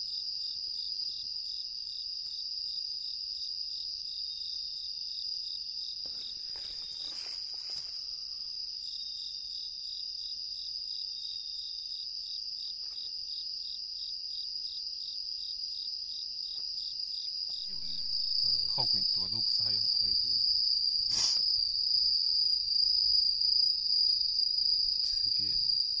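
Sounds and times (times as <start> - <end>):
insect chirping in regular pulse: 0.0 - 26.0
insect high-pitched trill: 0.0 - 26.0.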